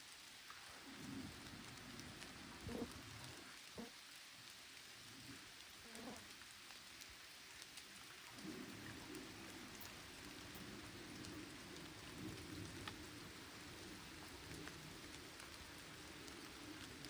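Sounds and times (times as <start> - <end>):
rain falling softly: 0.0 - 17.0.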